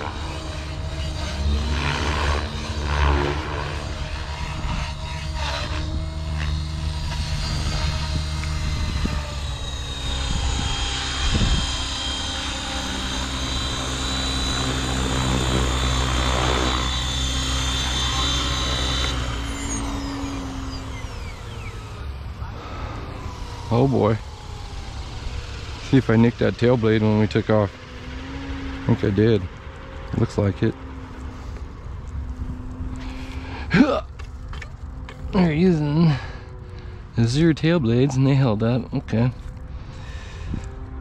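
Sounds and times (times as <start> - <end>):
rc helicopter motor whine: 0.0 - 41.0.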